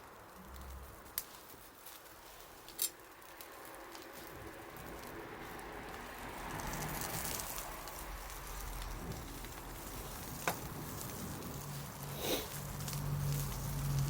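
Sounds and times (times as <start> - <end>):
bonfire crackling: 0.0 - 14.0
fire pops and snap: 0.0 - 14.0.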